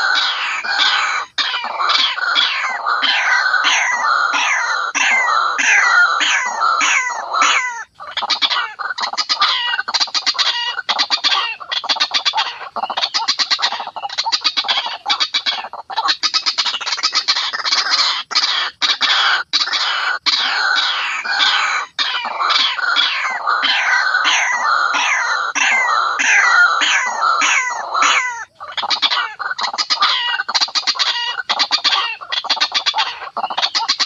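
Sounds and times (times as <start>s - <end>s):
bird calling harshly: 0.0s - 34.0s
bird rattling calls: 0.0s - 34.0s.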